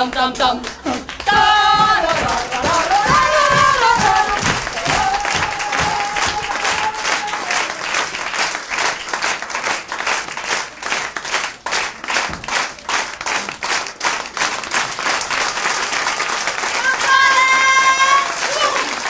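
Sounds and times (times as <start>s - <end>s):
audience applauding: 0.6s - 19.0s.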